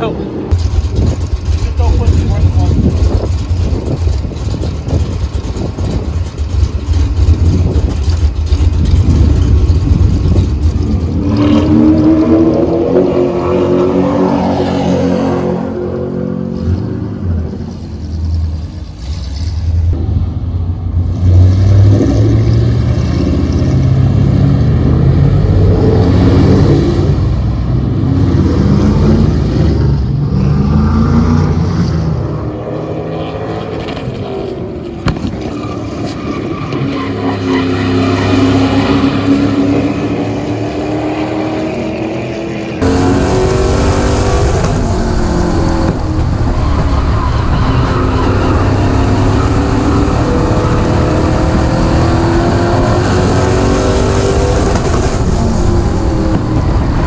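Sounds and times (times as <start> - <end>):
race car engine revving: 0.0 - 20.0, 21.0 - 57.0.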